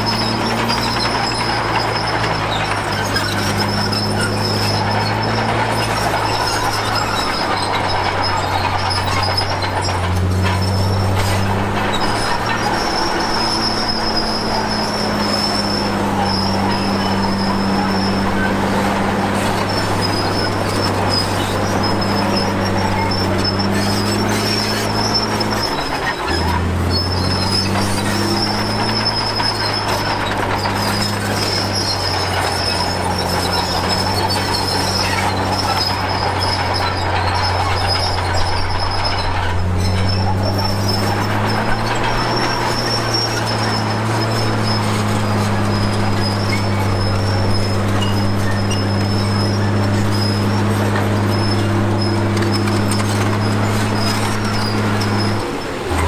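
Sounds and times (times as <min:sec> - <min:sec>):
bulldozer diesel engine running: 0:00.0 - 0:56.0
high-pitched track squeal: 0:00.0 - 0:56.0.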